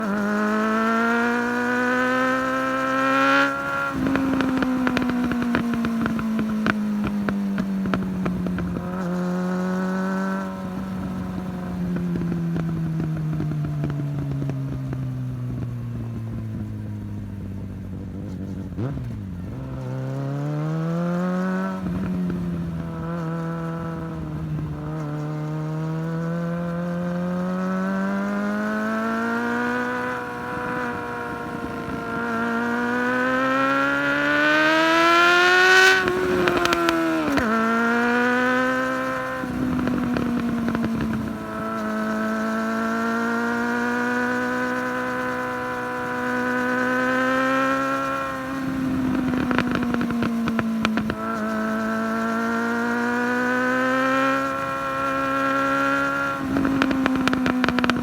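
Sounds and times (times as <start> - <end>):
engine revving: 0.0 - 14.8, 18.6 - 58.0
exhaust crackles: 0.0 - 58.0.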